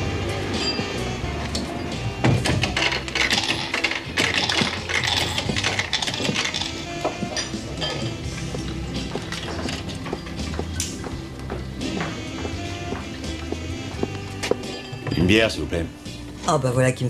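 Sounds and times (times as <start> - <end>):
background music: 0.0 - 17.0
glasses clinking: 0.3 - 13.0, 14.3 - 15.9.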